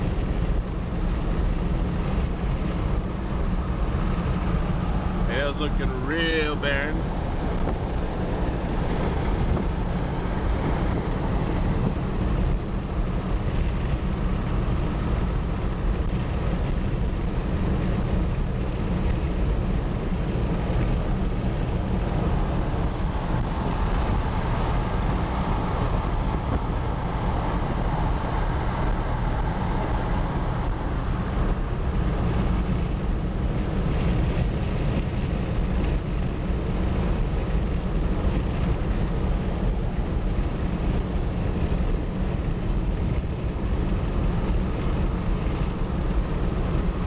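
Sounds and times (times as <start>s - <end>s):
car engine and road rumble: 0.0s - 47.0s.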